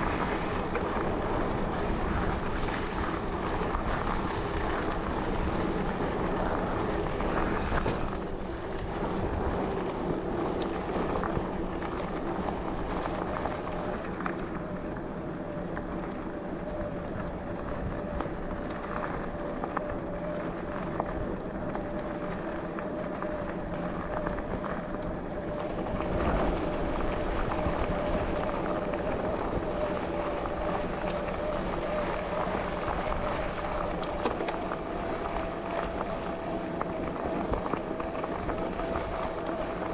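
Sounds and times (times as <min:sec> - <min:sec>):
bike tyre rolling on track: 0:00.0 - 0:39.9
crackles from surface: 0:00.0 - 0:39.9
steady hum of held tones: 0:00.0 - 0:39.9
wind on microphone: 0:00.0 - 0:39.9.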